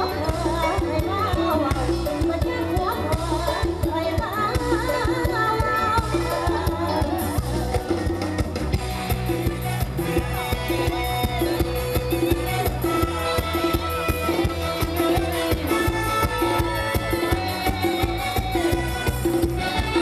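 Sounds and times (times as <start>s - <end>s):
amplified live band music: 0.0s - 20.0s
steady drum beat: 0.0s - 20.0s.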